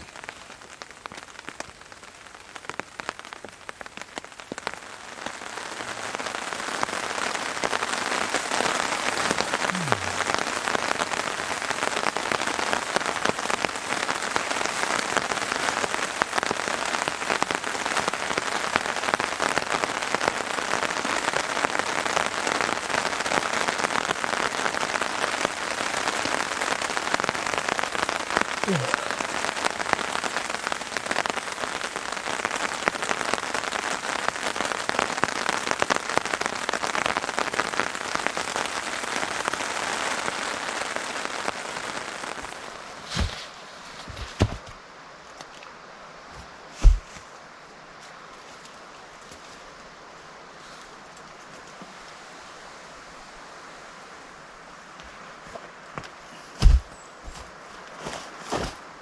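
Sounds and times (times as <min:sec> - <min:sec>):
rain falling on a tarp: 0:00.0 - 0:59.0.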